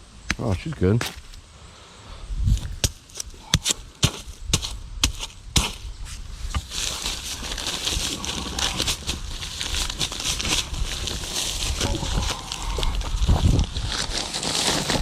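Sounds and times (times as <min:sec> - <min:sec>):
grainy scraping hiss: 0:01.4 - 0:15.0.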